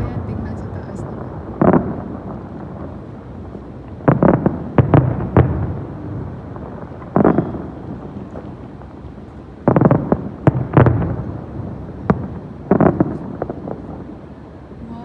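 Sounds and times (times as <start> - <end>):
fireworks bursting in loud bangs: 0.0 - 15.0
rumbling echo: 0.0 - 15.0.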